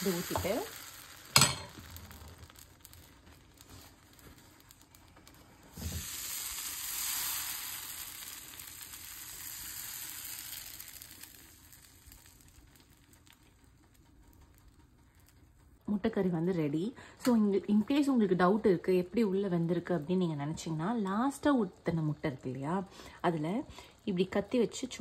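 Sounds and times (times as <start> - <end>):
batter sizzling in a hot pan: 0.0 - 16.1, 16.8 - 25.0.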